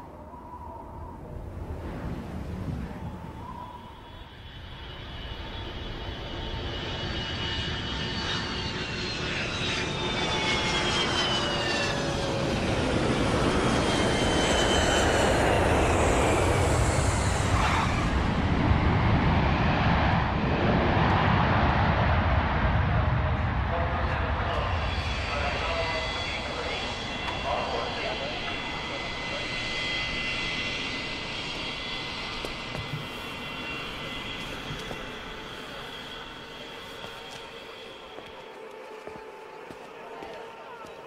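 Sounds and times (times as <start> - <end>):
high jet whine: 0.0 - 41.0
jet engines rumbling: 0.0 - 41.0.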